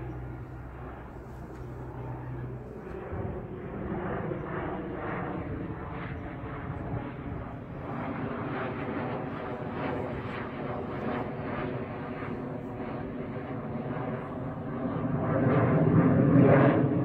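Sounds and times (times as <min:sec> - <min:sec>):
aircraft engine overhead: 0:00.0 - 0:17.0.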